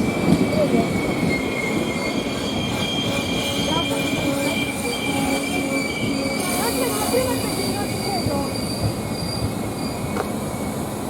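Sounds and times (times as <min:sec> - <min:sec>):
train rolling noise: 0:00.0 - 0:11.0
train wheels squealing on rails: 0:00.0 - 0:11.0.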